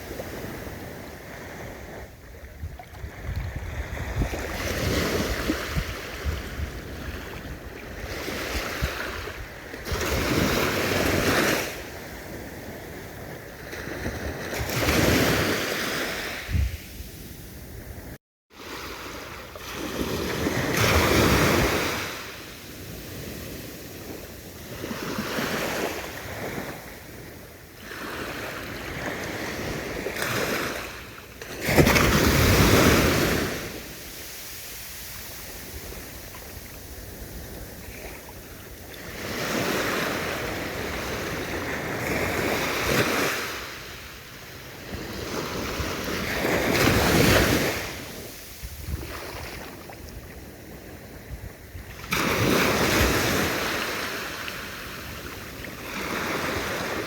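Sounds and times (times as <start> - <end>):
ocean waves breaking on shore: 0.0 - 57.0
wind noise on microphone: 0.0 - 57.0.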